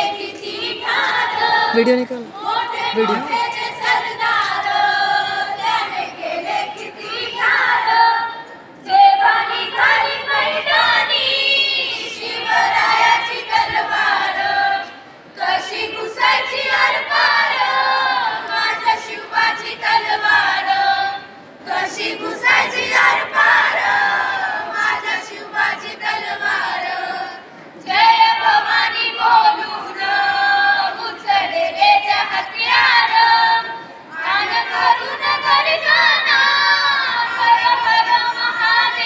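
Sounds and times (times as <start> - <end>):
girls singing together: 0.0 - 39.0.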